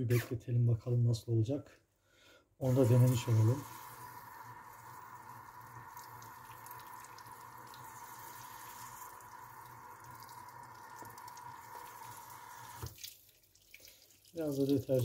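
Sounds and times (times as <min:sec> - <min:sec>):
tap water running into sink: 0:02.6 - 0:15.0.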